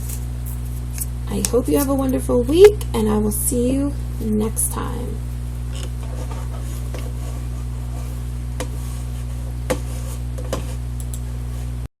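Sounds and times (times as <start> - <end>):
low electrical hum: 0.0 - 11.9.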